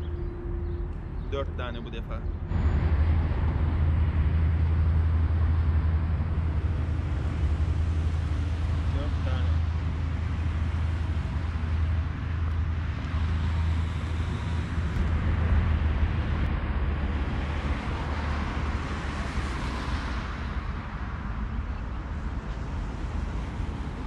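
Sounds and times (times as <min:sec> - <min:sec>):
low engine rumble: 0:00.0 - 0:24.0
rushing noise: 0:02.4 - 0:24.0.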